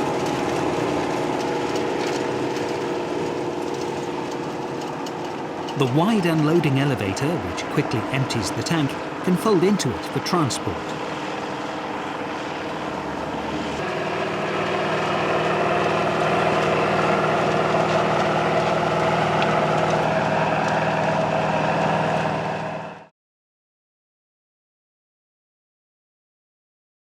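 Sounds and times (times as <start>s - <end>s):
harvester engine running: 0.0s - 23.1s.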